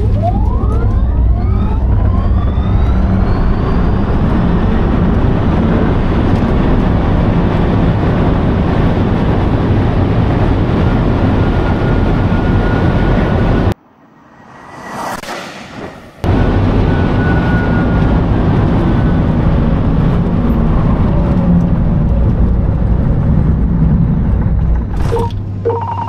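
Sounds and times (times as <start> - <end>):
wind and tyre roar: 0.0 - 25.7.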